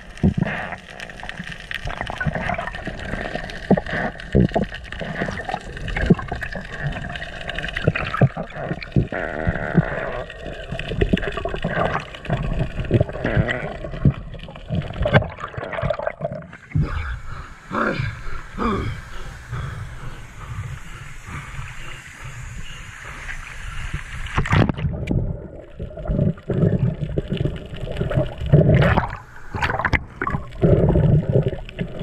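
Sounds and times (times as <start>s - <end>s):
faint steady hum: 0.0s - 32.0s
water gurgling and sloshing: 0.0s - 32.0s.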